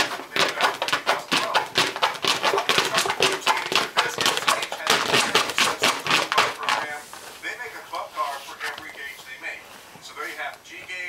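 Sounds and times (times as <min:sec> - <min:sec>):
puppy scratching cardboard box: 0:00.0 - 0:09.1.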